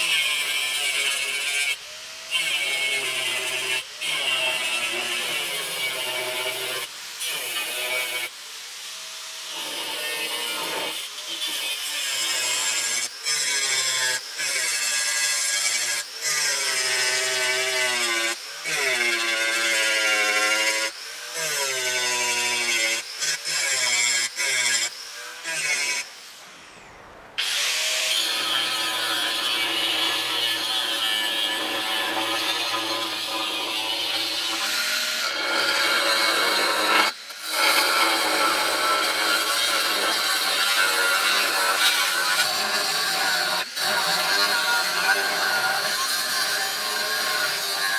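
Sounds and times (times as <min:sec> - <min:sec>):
angle grinder cutting steel bar: 0:00.0 - 0:26.5, 0:27.4 - 0:47.9
angle grinder grinding steel: 0:00.0 - 0:26.6, 0:27.4 - 0:47.9.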